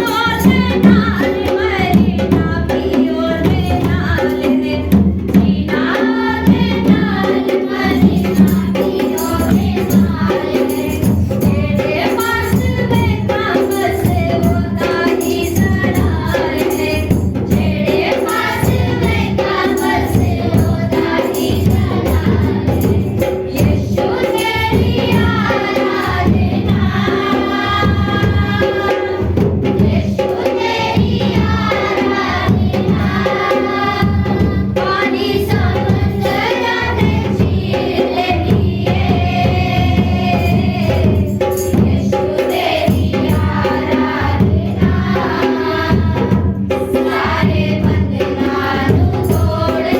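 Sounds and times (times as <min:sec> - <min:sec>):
congregation singing: 0:00.0 - 0:49.9
hand percussion beat: 0:00.0 - 0:49.9.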